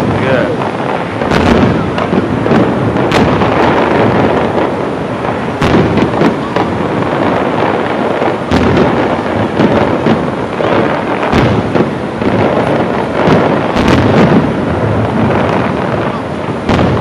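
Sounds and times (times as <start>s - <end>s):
fireworks bursting and crackling: 0.0s - 17.0s
sharp fireworks bangs: 0.0s - 17.0s.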